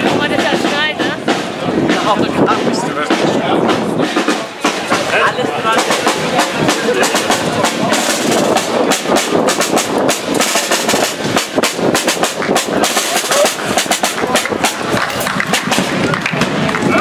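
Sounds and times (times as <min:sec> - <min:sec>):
voices: 0:00.0 - 0:17.0
rapid irregular clatter and knocking: 0:00.1 - 0:17.0.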